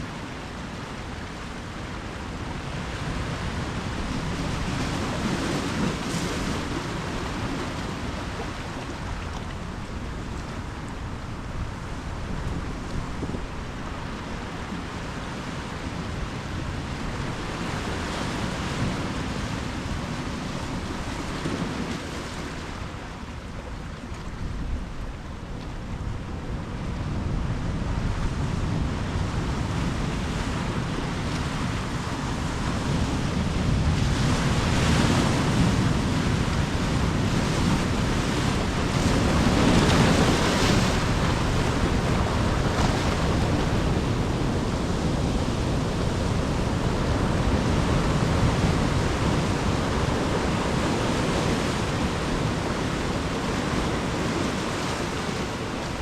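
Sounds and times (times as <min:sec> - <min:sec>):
wind on microphone: 0:00.0 - 0:23.1, 0:23.7 - 0:56.0
ocean waves breaking on shore: 0:00.0 - 0:56.0.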